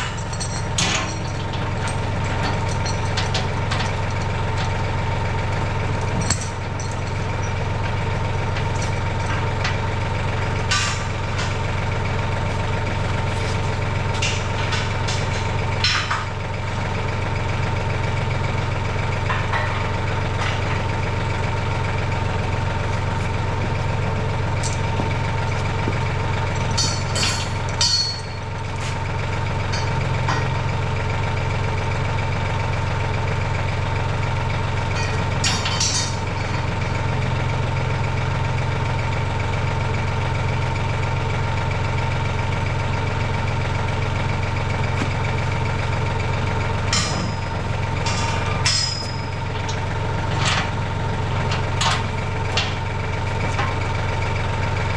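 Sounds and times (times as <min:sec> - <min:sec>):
engine idling: 0:00.0 - 0:54.9.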